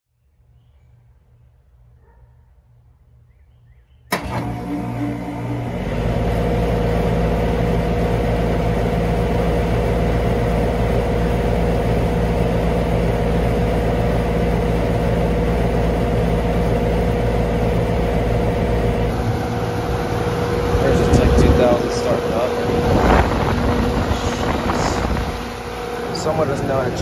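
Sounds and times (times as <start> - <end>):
heat pump unit humming: 4.1 - 27.0.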